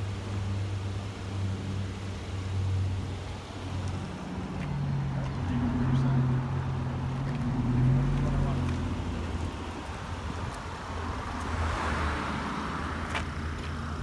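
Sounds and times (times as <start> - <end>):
vehicle engine idling: 0.0 - 11.6.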